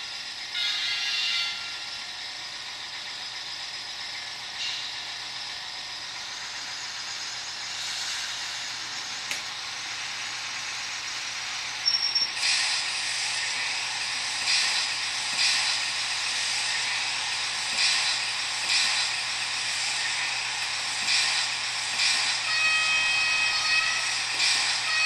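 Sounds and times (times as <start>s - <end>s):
hissing machinery: 0.0s - 25.0s.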